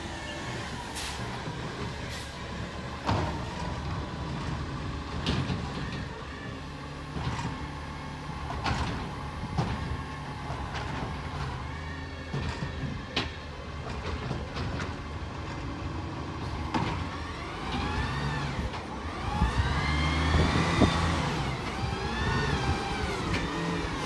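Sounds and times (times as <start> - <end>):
garbage truck diesel engine: 0.0 - 24.0.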